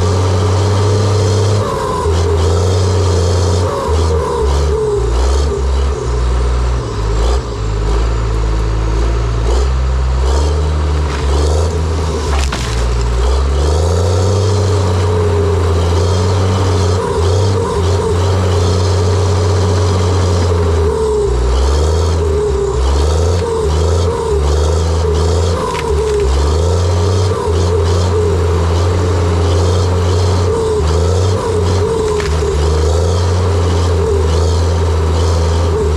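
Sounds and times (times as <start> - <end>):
bulldozer diesel engine under load: 0.0 - 35.9.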